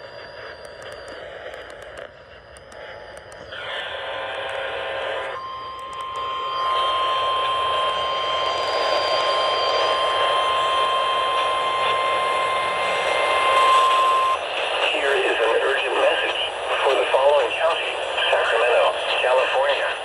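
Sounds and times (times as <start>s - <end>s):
buzzy alarm burst: 0.0s - 19.9s
radio static: 0.0s - 20.0s
steady high warning tone: 0.0s - 20.0s.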